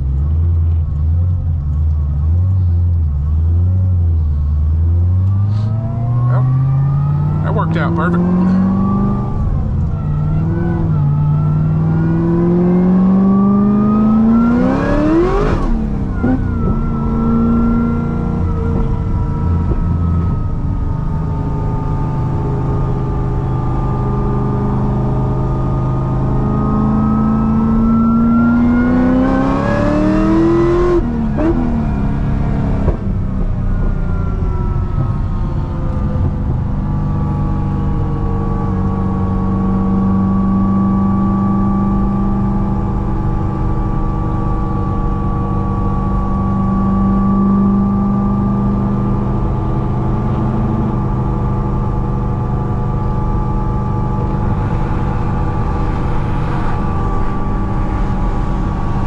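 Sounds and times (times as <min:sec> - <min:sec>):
supercharged car engine accelerating: 0:00.0 - 0:59.0.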